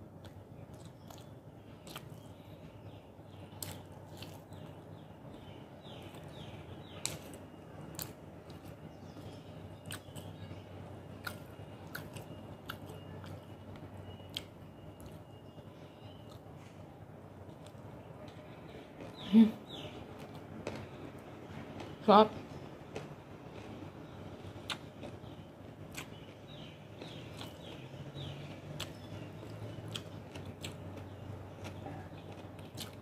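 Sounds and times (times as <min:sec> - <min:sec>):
chewing food: 0:00.0 - 0:16.8, 0:17.4 - 0:19.2, 0:19.9 - 0:22.0, 0:24.6 - 0:33.0
low steady hum: 0:00.0 - 0:33.0.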